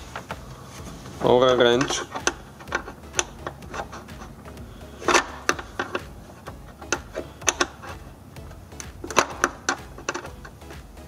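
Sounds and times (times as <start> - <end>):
hand tool clicking on bolt: 1.5 - 10.9.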